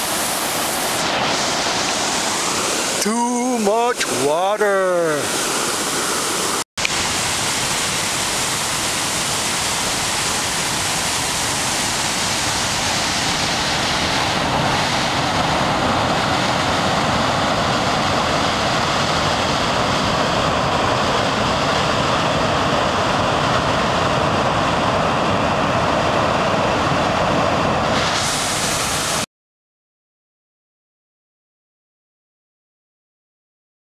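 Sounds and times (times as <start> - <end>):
river rushing over rapids: 0.0 - 29.3.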